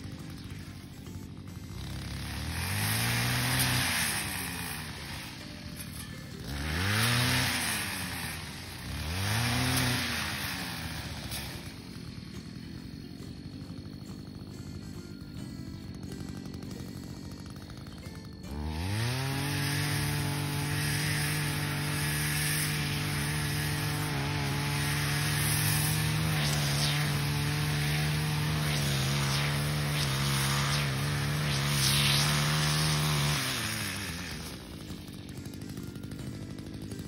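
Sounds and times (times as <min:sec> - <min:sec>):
brush cutter engine whining: 0:00.0 - 0:37.0.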